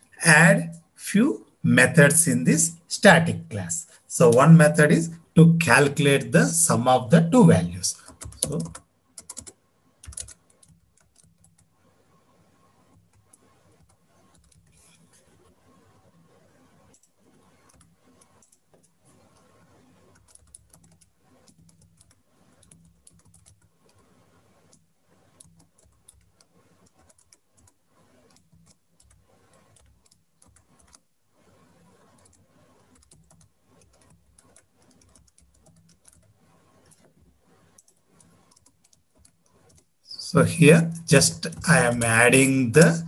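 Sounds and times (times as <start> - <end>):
keyboard typing: 1.8 - 43.0.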